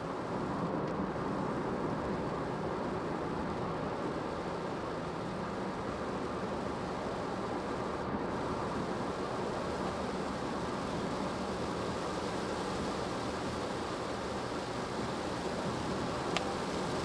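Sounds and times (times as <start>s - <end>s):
road and tyre noise in car cabin: 0.0s - 17.0s
rain: 1.4s - 17.0s.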